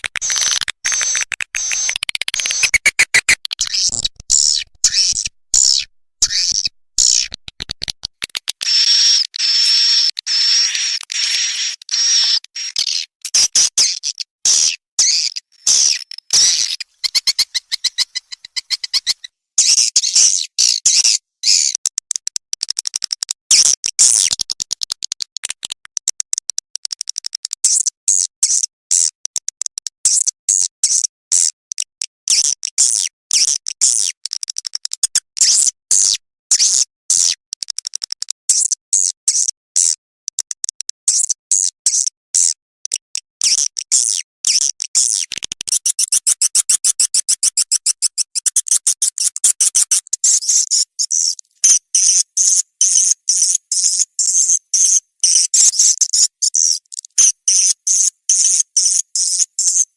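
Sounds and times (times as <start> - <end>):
recorded bird chirps and clicks: 0.0 - 59.9.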